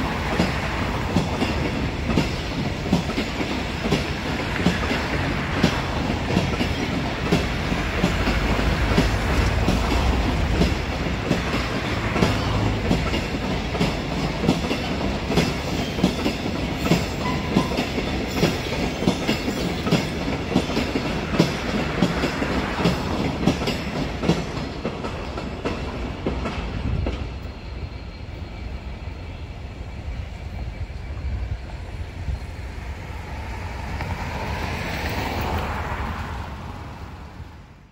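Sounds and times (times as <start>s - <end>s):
wheels clickety-clack over rail joints: 0.0s - 28.9s, 32.3s - 37.6s
another train running: 0.0s - 37.9s
freight wagons rumbling past: 0.0s - 37.9s.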